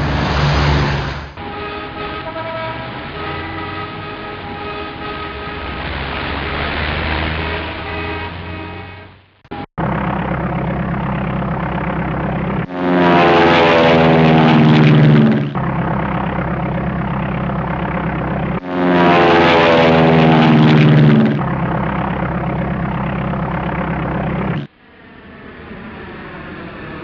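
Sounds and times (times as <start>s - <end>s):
motor engine droning: 0.0s - 27.0s.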